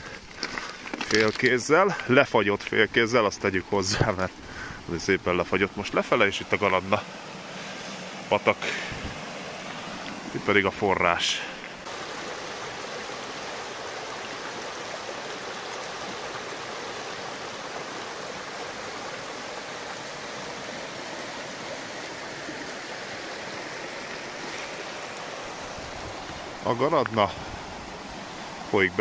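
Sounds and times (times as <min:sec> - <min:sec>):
rushing brook water: 0:00.0 - 0:29.0.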